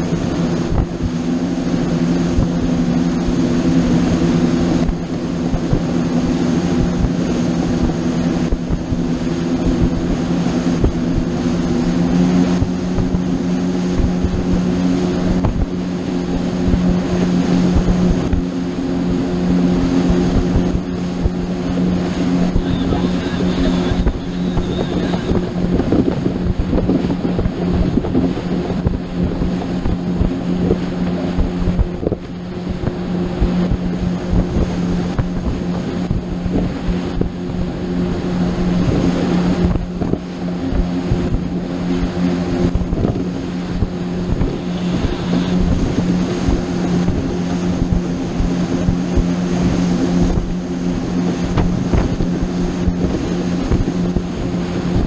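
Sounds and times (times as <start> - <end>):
motorboat engine humming: 0.0 - 55.0
rushing water: 0.0 - 55.0
wind buffeting microphone: 0.0 - 55.0.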